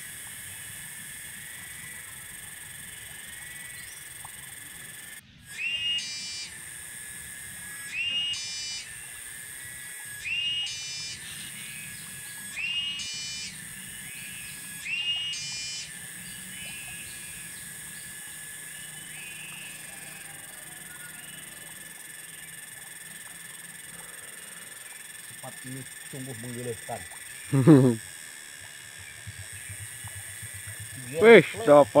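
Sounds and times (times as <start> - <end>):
insect drone: 0.0 - 32.0
animal whistling and rattling call: 3.0 - 6.6, 7.7 - 9.3, 10.2 - 32.0.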